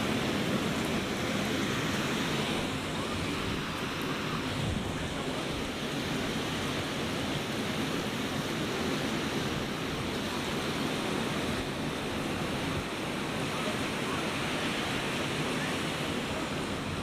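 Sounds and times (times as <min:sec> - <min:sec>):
ocean surf on a beach: 0:00.0 - 0:17.0.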